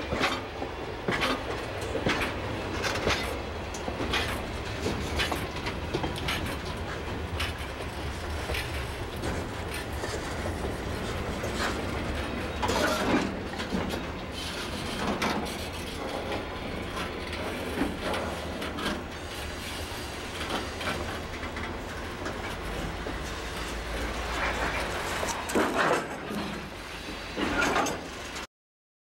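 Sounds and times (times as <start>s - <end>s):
freight train wheels rumbling: 0.0s - 28.5s
wheels clicking on track joints: 0.0s - 28.5s.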